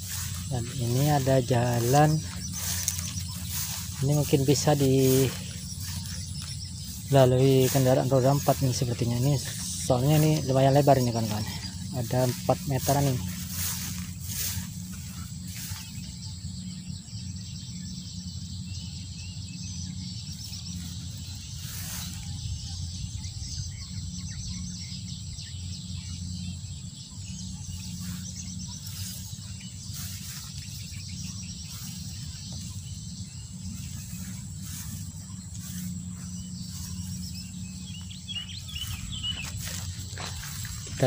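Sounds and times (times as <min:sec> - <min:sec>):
birds chirping: 0:00.0 - 0:41.0
insect chorus buzzing: 0:00.0 - 0:41.0
low steady hum: 0:00.0 - 0:41.0.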